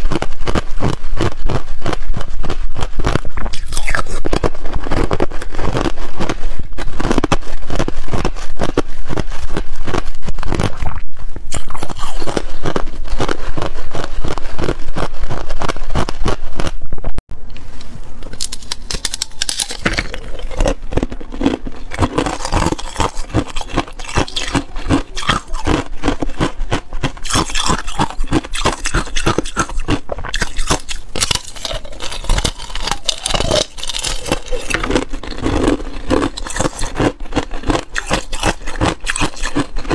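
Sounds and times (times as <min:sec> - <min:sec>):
ice being bitten and crunched: 0:00.0 - 0:16.8, 0:18.4 - 0:39.9.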